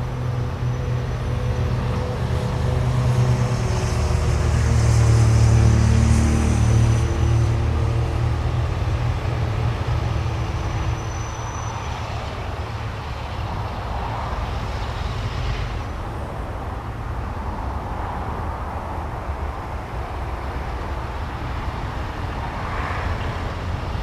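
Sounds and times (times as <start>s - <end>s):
diesel locomotive engine rumbling: 0.0s - 24.0s.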